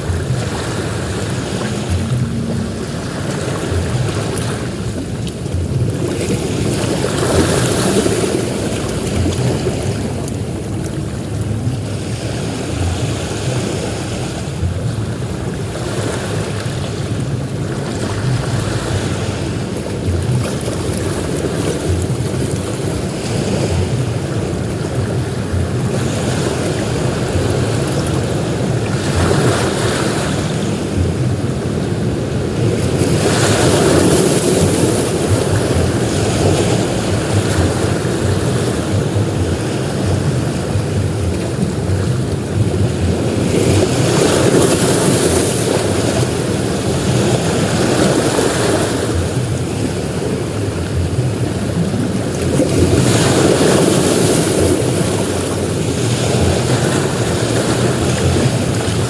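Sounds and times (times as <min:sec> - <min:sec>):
ocean waves breaking: 0:00.0 - 0:59.0
wind rumble on microphone: 0:00.0 - 0:59.0.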